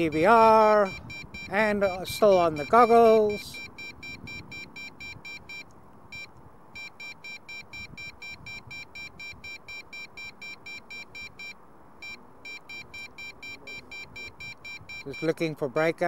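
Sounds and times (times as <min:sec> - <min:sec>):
rapid electronic beeping: 0:00.0 - 0:05.6, 0:06.2 - 0:15.5.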